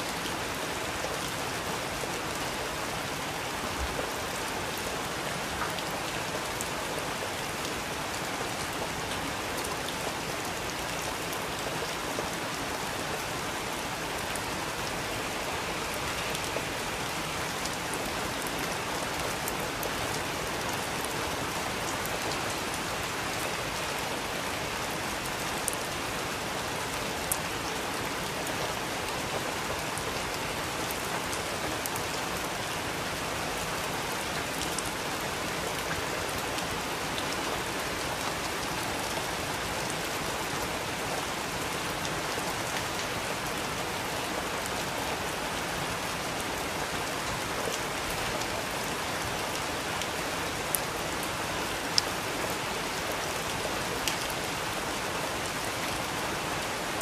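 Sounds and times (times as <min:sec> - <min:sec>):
rain hissing on a surface: 0:00.0 - 0:57.0.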